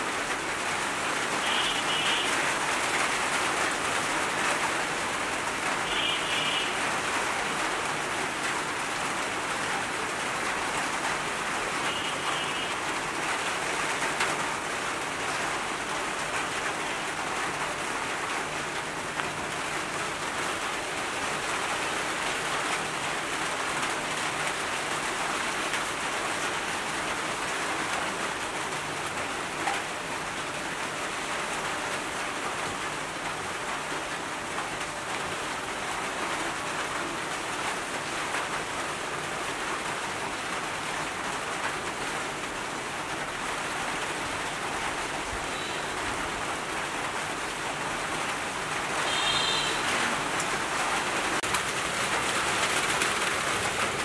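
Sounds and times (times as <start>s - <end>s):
rain on leaves and flowerpots: 0.0s - 54.0s.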